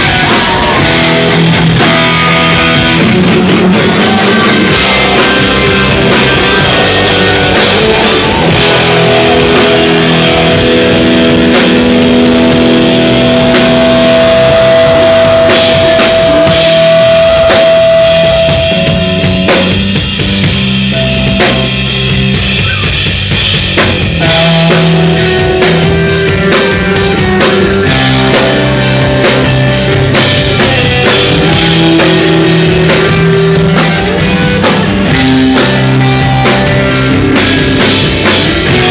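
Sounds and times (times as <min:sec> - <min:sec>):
hardcore band playing live: 0:00.0 - 0:38.9.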